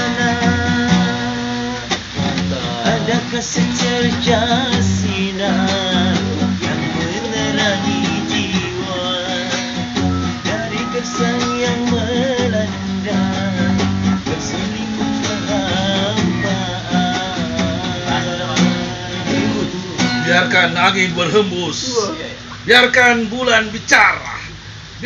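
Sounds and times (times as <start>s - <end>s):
acoustic guitar strumming: 0.0s - 23.9s.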